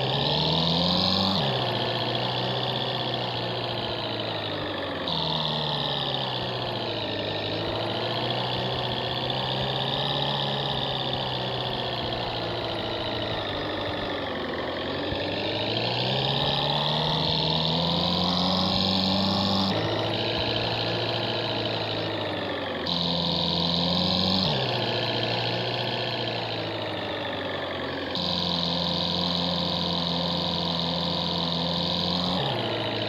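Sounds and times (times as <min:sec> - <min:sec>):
jeep engine running: 0:00.0 - 0:33.0.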